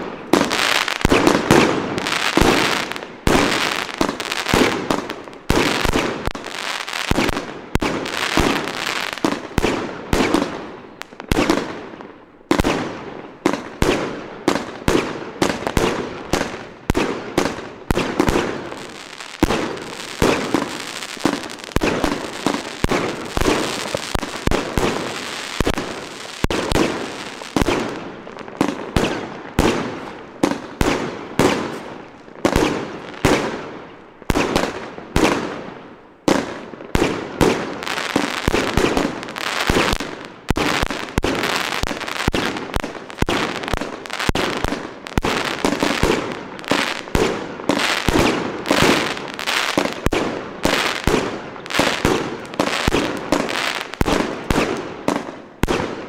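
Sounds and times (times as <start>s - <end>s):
fireworks battery firing aerial shots: 0.0s - 11.8s, 12.5s - 33.6s, 36.3s - 56.0s.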